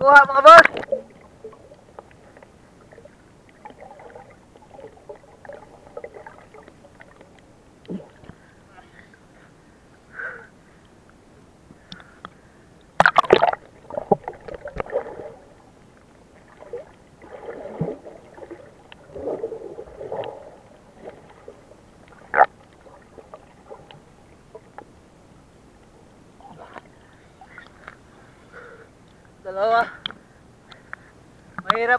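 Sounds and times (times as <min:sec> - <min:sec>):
muffled water splashing and bubbling: 0:00.2 - 0:09.8, 0:10.7 - 0:29.3.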